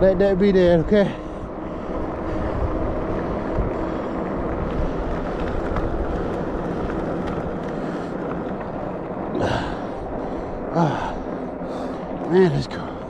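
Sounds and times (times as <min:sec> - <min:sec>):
electric bike running noise: 0:00.0 - 0:13.0
wind rushing over microphone: 0:00.0 - 0:13.0.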